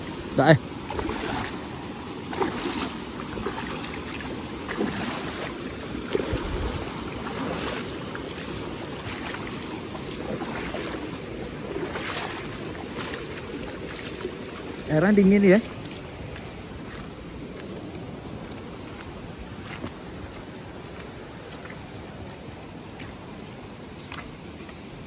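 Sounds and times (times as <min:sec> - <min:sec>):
feet splashing through water: 0:00.0 - 0:25.0
river rushing over stones: 0:00.0 - 0:25.0.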